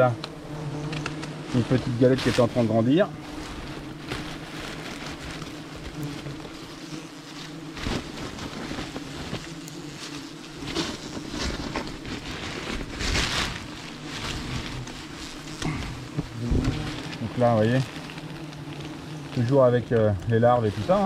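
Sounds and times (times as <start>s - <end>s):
wasps buzzing: 0.0s - 21.0s
paper nest rustling and scraping: 0.9s - 21.0s.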